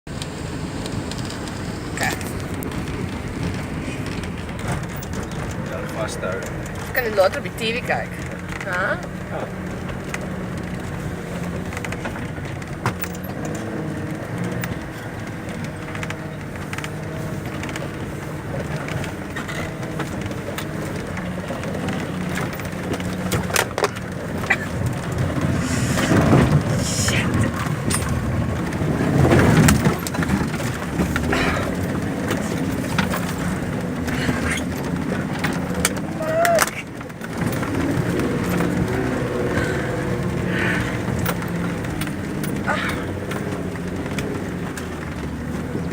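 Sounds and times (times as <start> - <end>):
engine droning under load: 0.1 - 45.9
vehicle knocks and rattles: 0.1 - 45.9.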